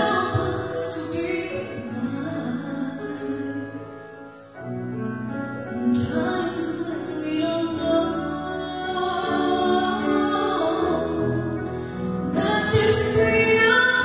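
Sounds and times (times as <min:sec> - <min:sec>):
grand piano: 0:00.0 - 0:14.0
woman singing a ballad: 0:00.0 - 0:14.0.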